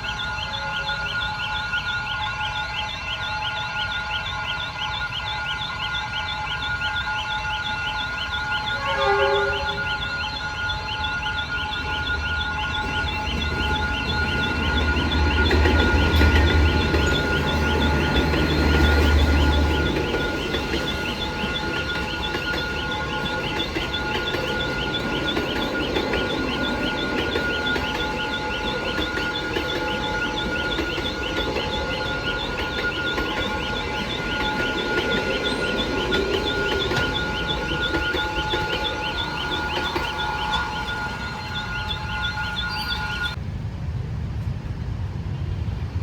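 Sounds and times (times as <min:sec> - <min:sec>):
locomotive engine drone: 0:00.0 - 0:46.0
train carriages rumbling past: 0:03.1 - 0:46.0.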